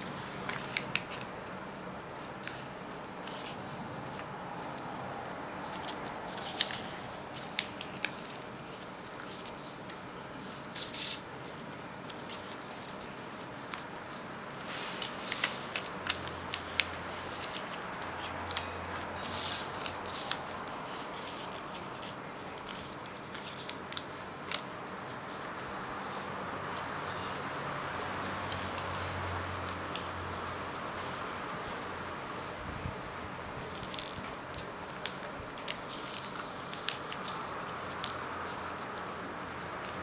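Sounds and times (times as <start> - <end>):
paper crackling and rustling: 0.0 - 40.0.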